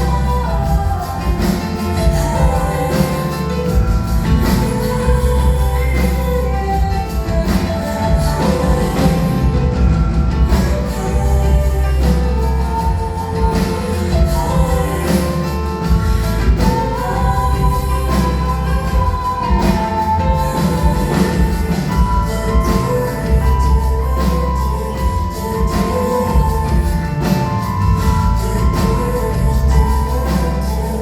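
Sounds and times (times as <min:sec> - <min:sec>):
band with heavy bass: 0:00.0 - 0:31.0.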